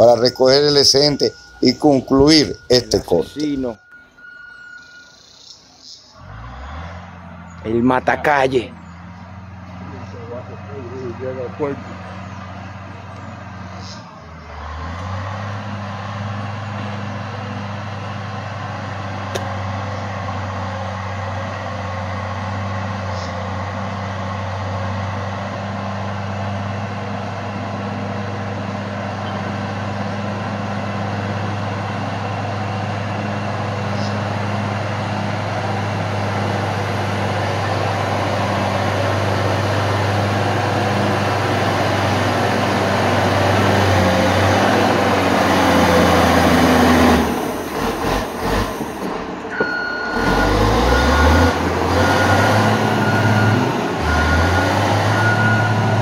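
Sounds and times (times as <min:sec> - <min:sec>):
grader diesel engine droning: 0:00.0 - 0:56.0.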